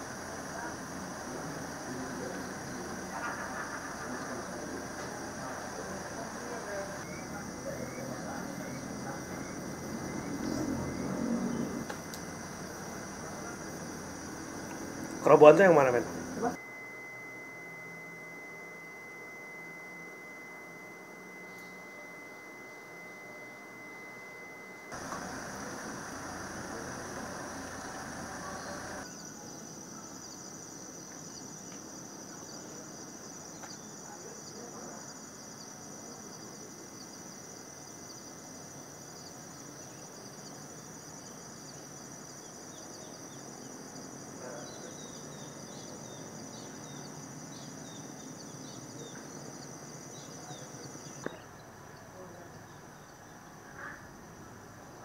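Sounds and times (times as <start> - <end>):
insect chorus: 0.0 - 55.0
short insect chirps: 2.3 - 37.4, 38.0 - 52.1.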